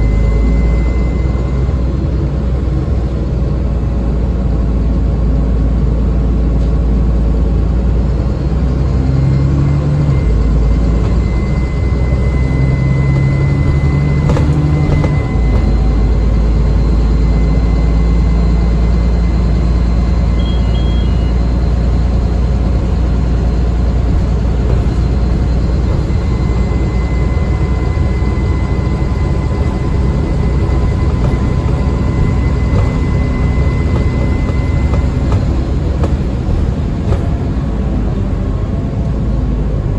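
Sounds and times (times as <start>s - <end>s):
bus diesel engine rumble: 0.0s - 39.9s
high turbo whine: 0.0s - 39.9s.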